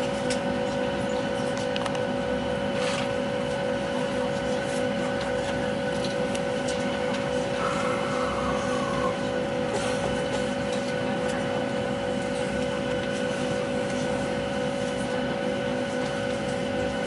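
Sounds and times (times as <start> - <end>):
airliner cabin drone with whine: 0.0 - 17.0.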